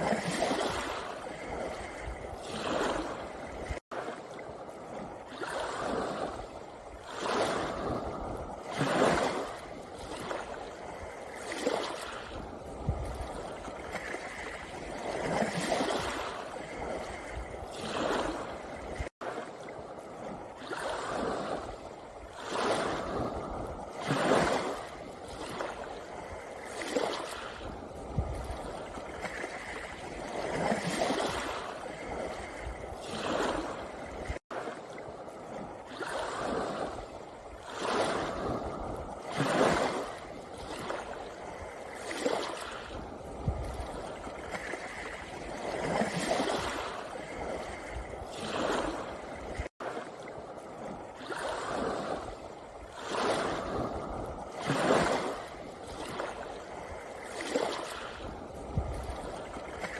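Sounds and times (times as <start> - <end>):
sea waves washing over pebbles: 0.0 - 59.9.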